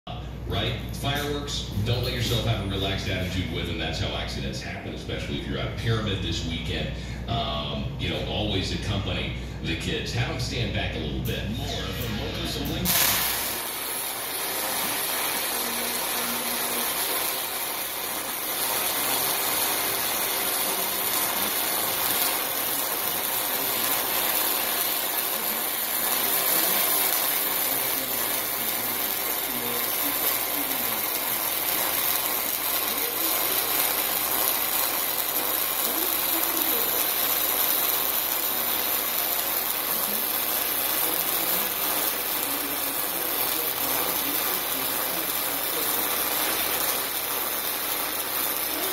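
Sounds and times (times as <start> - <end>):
welding arc sizzling: 0.1 - 48.9.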